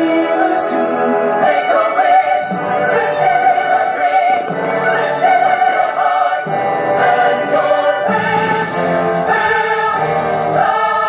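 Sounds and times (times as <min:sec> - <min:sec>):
backing music: 0:00.0 - 0:11.0
choir singing held notes: 0:00.0 - 0:11.0.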